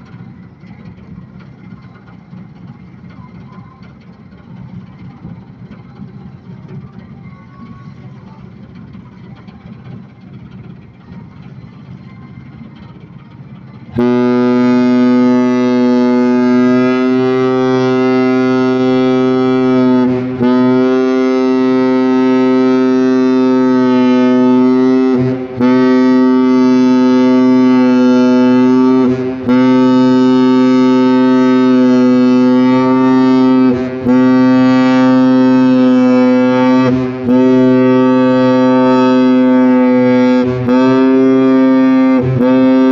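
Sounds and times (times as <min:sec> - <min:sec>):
ship's horn blasts: 0:00.0 - 0:42.9.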